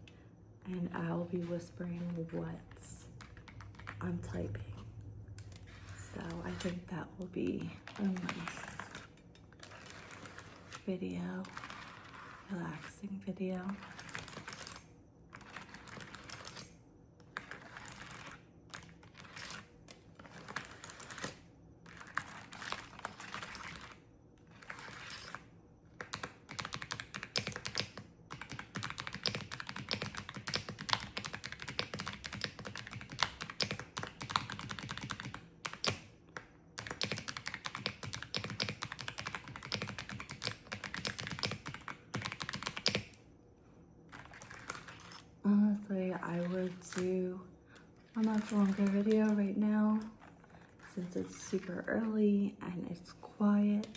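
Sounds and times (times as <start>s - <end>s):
fast keyboard typing: 0.9s - 12.9s, 13.6s - 43.2s, 44.1s - 45.3s, 46.2s - 47.3s, 48.0s - 51.8s.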